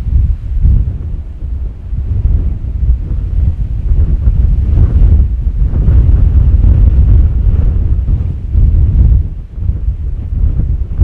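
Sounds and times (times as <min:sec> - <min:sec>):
jet engines rumbling on takeoff: 0:00.0 - 0:11.0.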